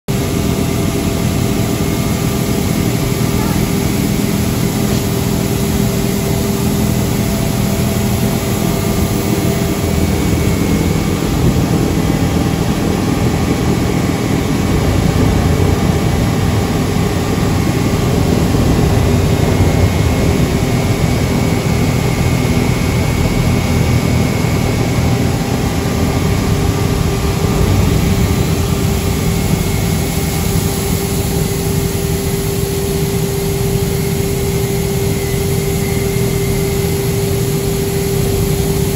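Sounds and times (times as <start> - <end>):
machine drone and hum: 0.1 - 38.9.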